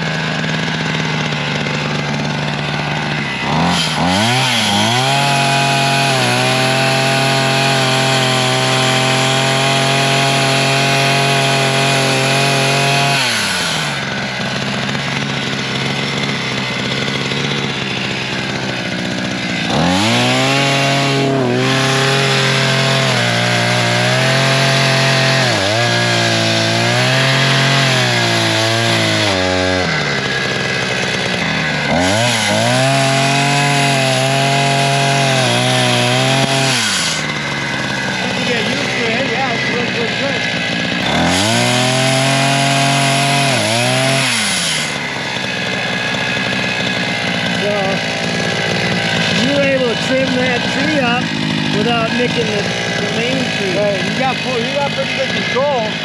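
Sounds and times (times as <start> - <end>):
chainsaw engine cutting brush: 0.0 - 56.0.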